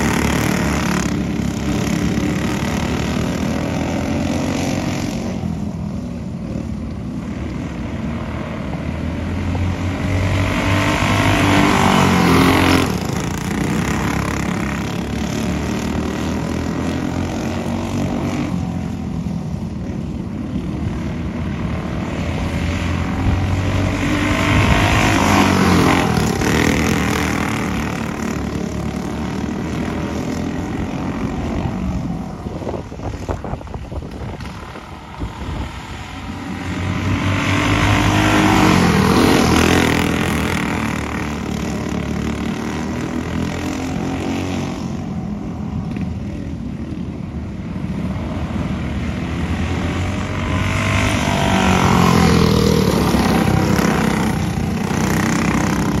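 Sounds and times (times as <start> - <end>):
racing kart engines buzzing: 0.0 - 56.0.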